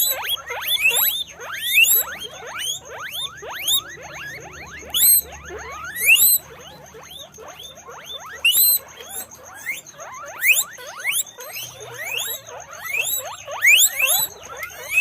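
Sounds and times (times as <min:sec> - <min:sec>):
guinea pigs squealing: 0:00.0 - 0:15.0.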